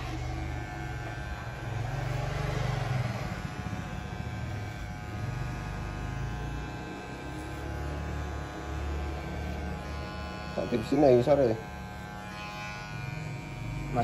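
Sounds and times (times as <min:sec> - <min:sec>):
electric hair clipper buzzing: 0:00.0 - 0:14.0.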